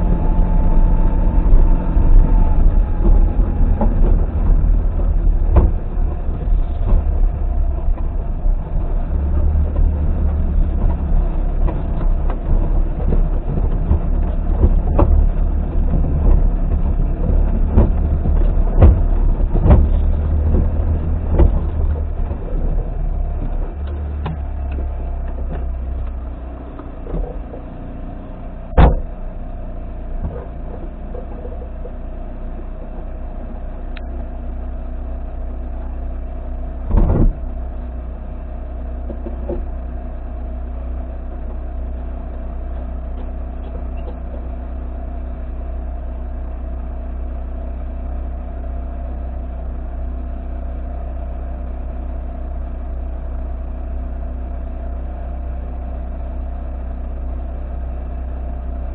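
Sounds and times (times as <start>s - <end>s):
engine idling: 0.0s - 58.9s.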